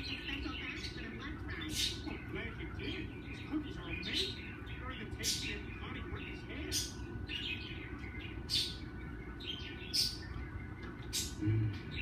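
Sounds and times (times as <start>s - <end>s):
parakeet chirping: 0.0s - 12.0s
steady low hum: 0.0s - 12.0s.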